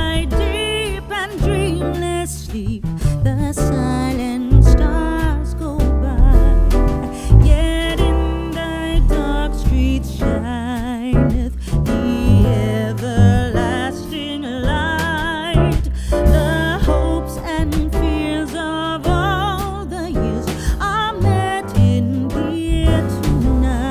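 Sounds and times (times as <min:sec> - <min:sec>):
song with singing voice and guitar: 0:00.0 - 0:23.9.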